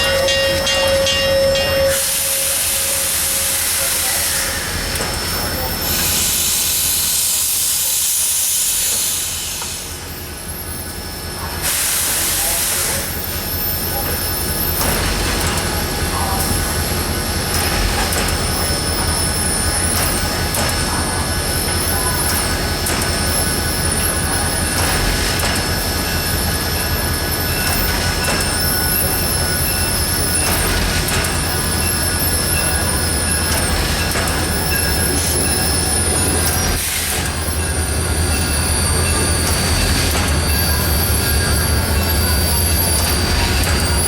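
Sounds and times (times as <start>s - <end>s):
train rumbling on rails: 0.0s - 44.0s
steam hissing from locomotive: 1.7s - 44.0s.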